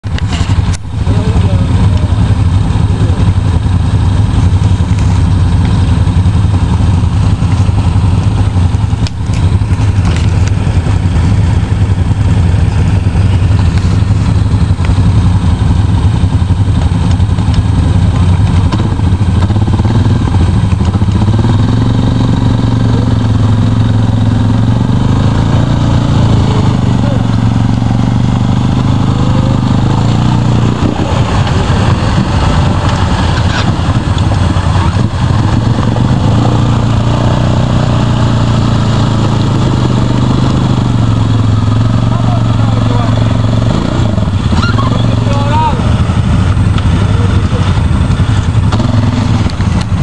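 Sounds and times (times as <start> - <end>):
atv engine running under load: 0.0 - 50.0.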